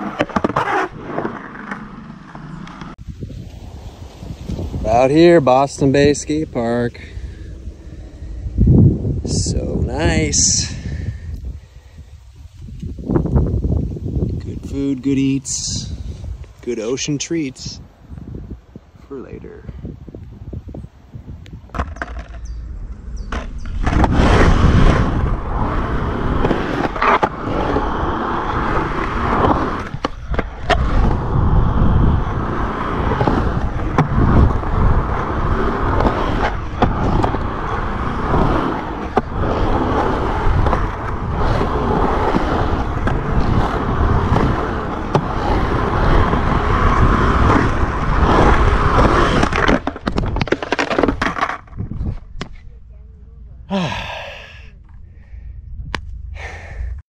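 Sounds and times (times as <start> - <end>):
skateboard wheels rolling on concrete: 0.0 - 57.0.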